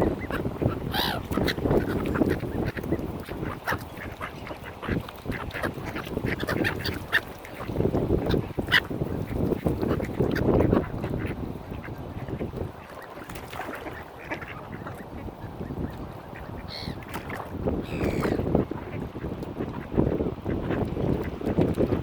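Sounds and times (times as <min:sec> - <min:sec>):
ducks quacking: 0:00.0 - 0:17.2, 0:17.8 - 0:21.4.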